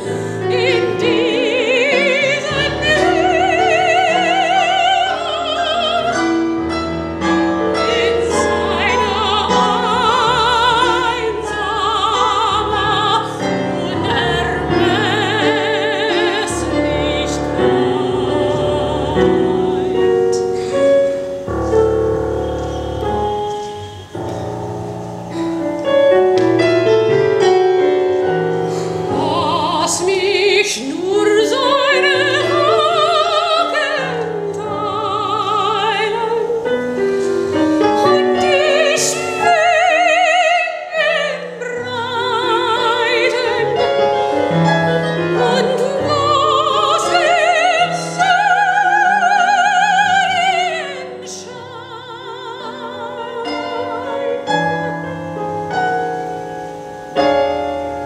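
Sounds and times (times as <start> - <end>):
woman singing with vibrato: 0.0 - 26.1, 27.8 - 57.9
piano accompaniment: 0.0 - 58.0.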